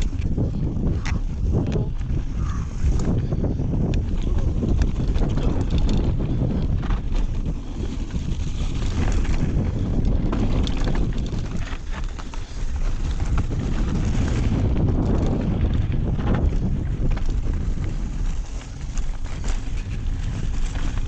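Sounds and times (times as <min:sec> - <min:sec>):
bike clicks and rattles: 0:00.0 - 0:21.0
wind buffeting microphone: 0:00.0 - 0:21.0.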